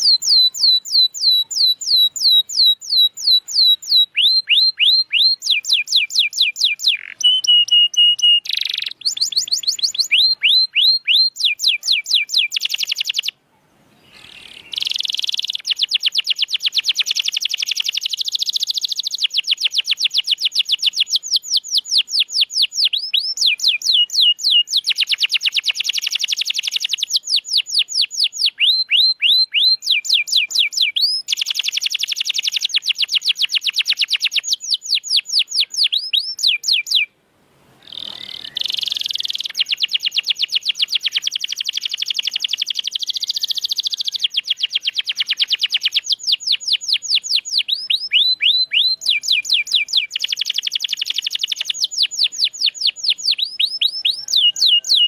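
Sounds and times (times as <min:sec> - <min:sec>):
canary singing trills: 0:00.0 - 0:37.1, 0:37.8 - 0:55.0.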